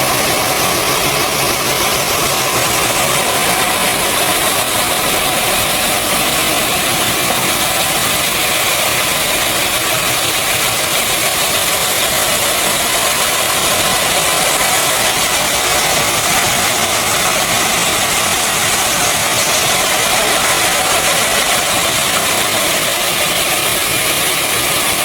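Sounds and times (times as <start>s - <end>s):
machinery hiss and hum: 0.0s - 25.0s.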